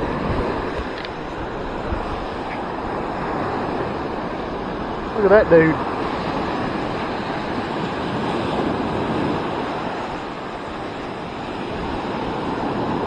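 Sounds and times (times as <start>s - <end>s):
surf breaking on beach: 0.0s - 13.0s
wind rumbling on microphone: 0.0s - 13.0s.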